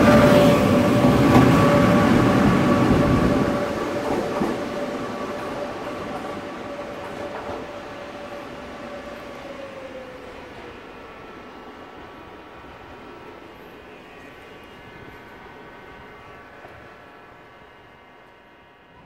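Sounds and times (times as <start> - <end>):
train wheels rumbling on rails: 0.0 - 19.0
train whine: 0.0 - 19.0.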